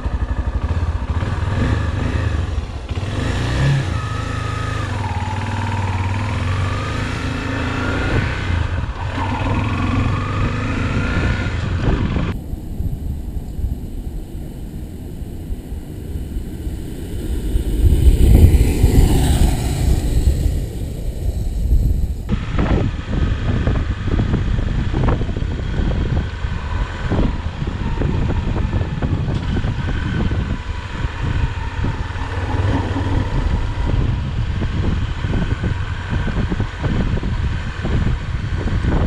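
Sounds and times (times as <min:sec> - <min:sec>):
motorcycle engine revving: 0:00.0 - 0:39.0
motorcycle passing by: 0:00.0 - 0:39.0.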